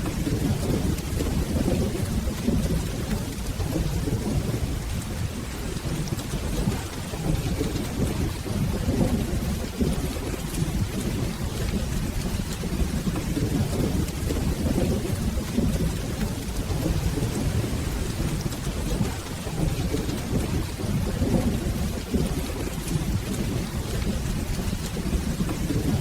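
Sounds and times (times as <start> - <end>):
rolling thunder: 0.0 - 26.0
steady rain: 0.0 - 26.0.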